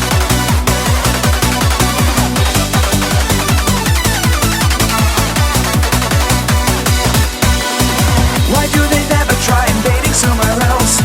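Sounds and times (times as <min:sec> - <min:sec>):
fast electronic dance music: 0:00.0 - 0:11.0.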